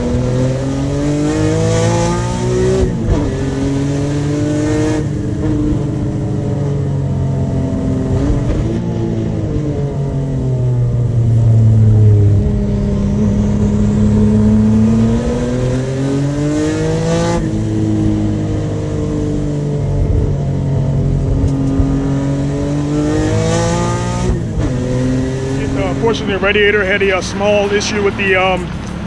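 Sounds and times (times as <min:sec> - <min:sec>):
car engine revving under full throttle: 0:00.0 - 0:29.0.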